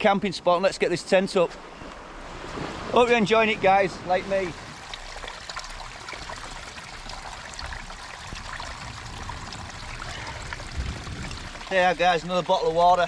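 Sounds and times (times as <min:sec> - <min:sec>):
water trickling: 0:02.3 - 0:13.0.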